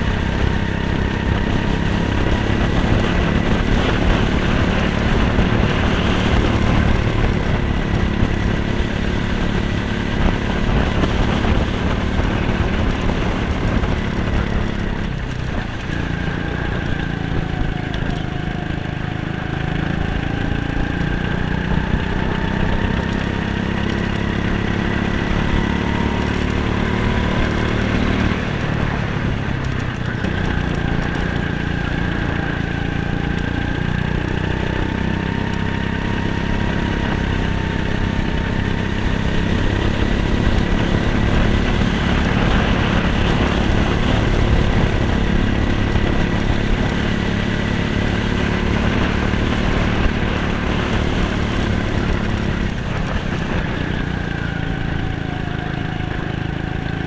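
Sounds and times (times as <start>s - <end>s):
go-kart engines racing: 0.0s - 57.0s.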